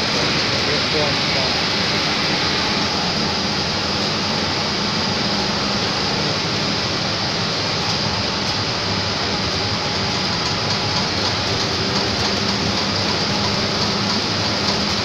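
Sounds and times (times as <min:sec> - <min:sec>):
machinery drone and rush: 0:00.0 - 0:15.0.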